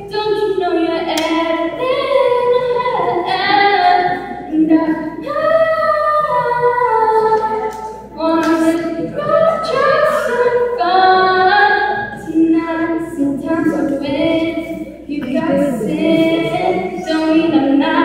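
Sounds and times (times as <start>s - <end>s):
girl singing a pop ballad: 0.0s - 18.0s.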